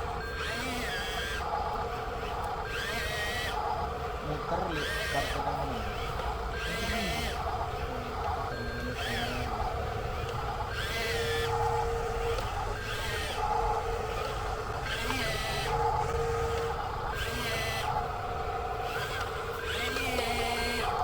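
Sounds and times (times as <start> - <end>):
toy truck electric motors whining: 0.0 - 21.0.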